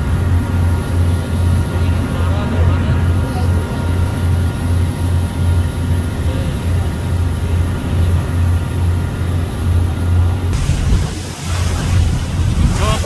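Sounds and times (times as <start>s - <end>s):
boat engine throbbing: 0.0s - 13.0s
wind and water hiss: 0.0s - 13.0s.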